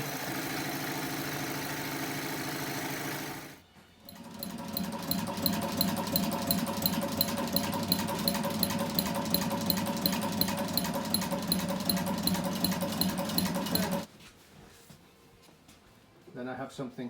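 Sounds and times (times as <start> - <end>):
sewing machine running: 0.0 - 14.1.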